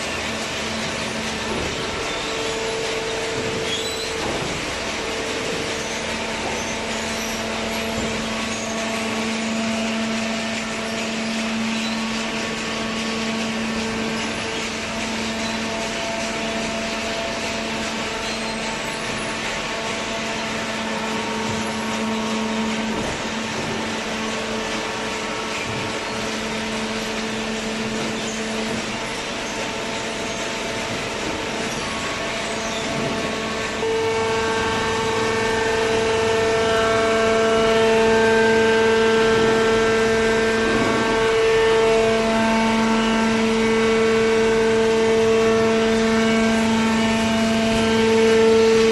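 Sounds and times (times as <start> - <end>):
baler machine hum: 0.0 - 48.9.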